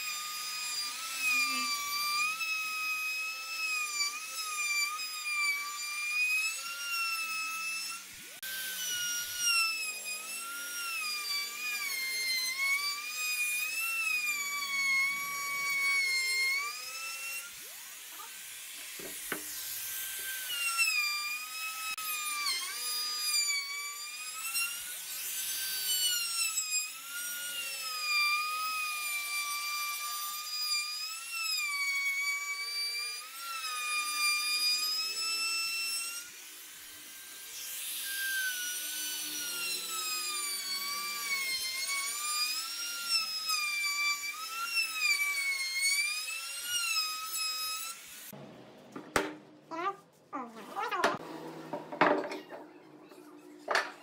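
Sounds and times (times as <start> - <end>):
router whining cutting wood: 0.0 - 48.4, 49.0 - 54.0.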